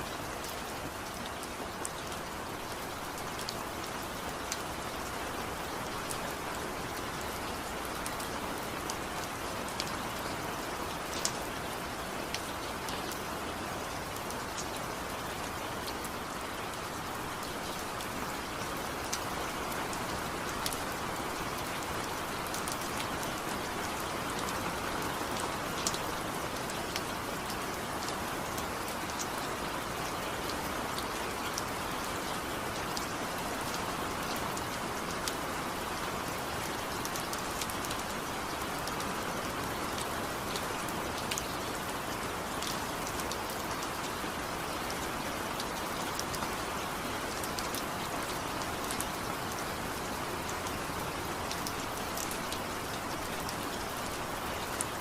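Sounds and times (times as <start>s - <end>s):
rain falling: 0.0s - 55.0s
raindrops ticking on a surface: 0.0s - 55.0s.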